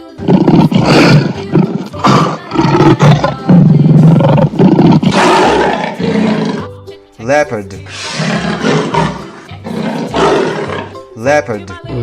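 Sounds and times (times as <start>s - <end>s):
lion roaring: 0.1s - 6.7s, 7.9s - 11.0s.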